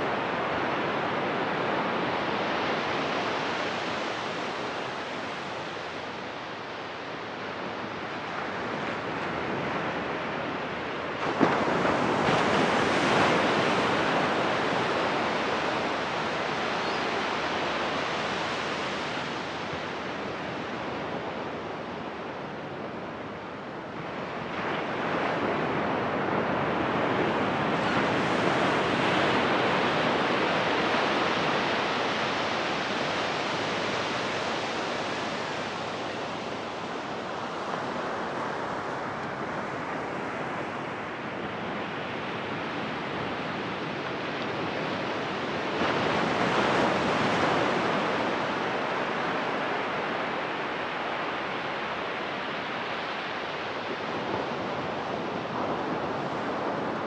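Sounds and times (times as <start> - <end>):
ocean surf breaking on sand: 0.0 - 57.0.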